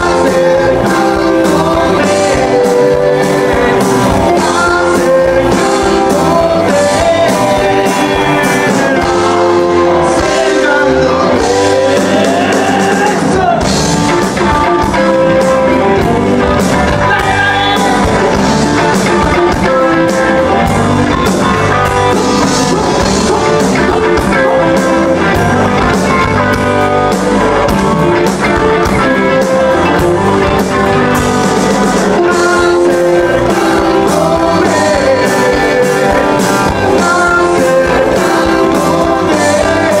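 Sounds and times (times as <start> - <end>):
drums: 0.0 - 40.0
electric bass: 0.0 - 40.0
electric guitars: 0.0 - 40.0
person singing: 0.0 - 40.0.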